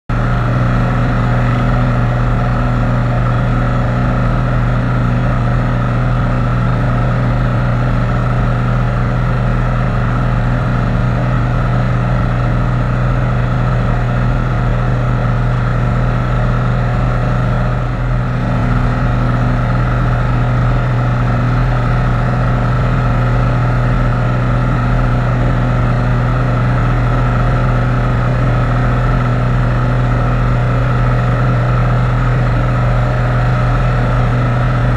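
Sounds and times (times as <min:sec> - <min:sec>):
airplane engine and propeller drone: 0:00.1 - 0:34.9.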